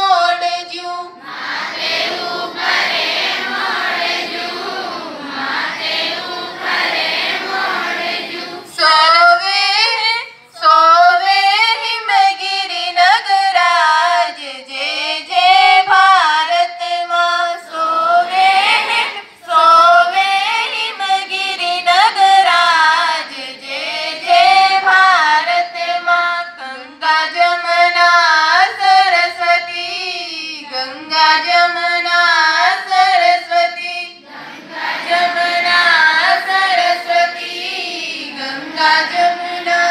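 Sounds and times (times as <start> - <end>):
children and woman singing together: 0.0 - 39.9.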